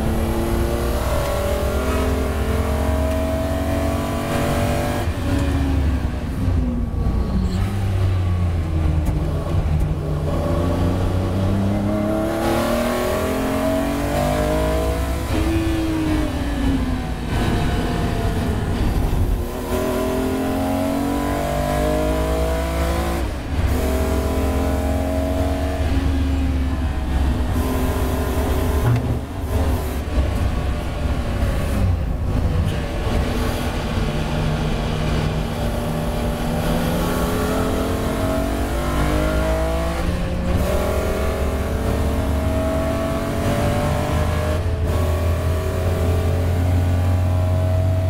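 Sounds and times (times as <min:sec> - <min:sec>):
race car engine accelerating: 0:00.0 - 0:48.0.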